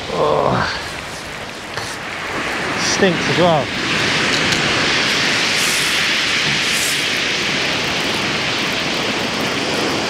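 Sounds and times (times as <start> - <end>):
wind: 0.0 - 10.0
sea breaking on shingle: 0.8 - 10.0.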